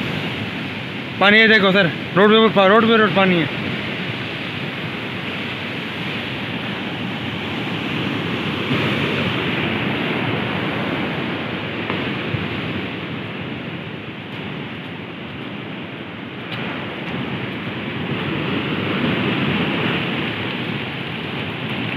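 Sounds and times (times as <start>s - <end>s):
surf breaking on shore: 0.0s - 21.9s.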